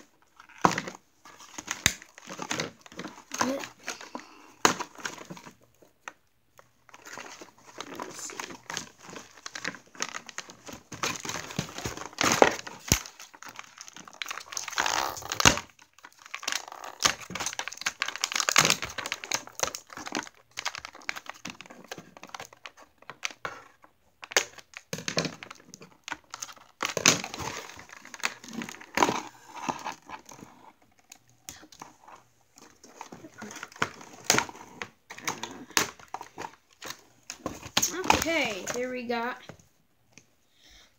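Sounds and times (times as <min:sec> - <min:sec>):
plastic packaging crinkling: 0:00.0 - 0:39.4.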